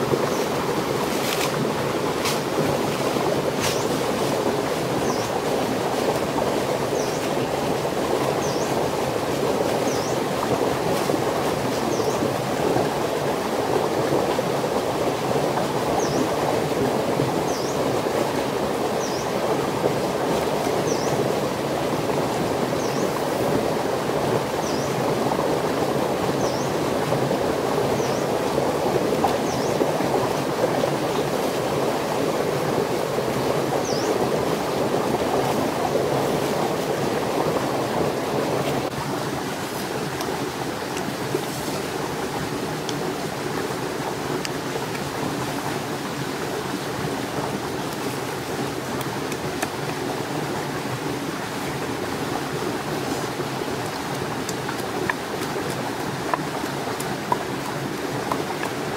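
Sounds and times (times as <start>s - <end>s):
flowing water rushing: 0.0s - 58.9s.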